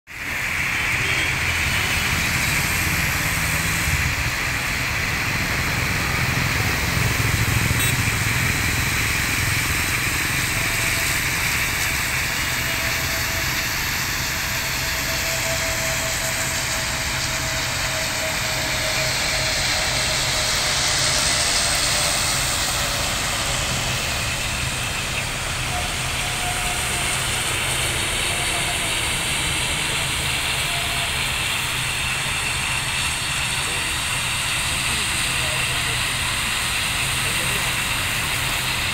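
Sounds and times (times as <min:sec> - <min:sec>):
jet engines of landing plane: 0:00.1 - 0:38.9
road traffic rumble: 0:00.1 - 0:38.9.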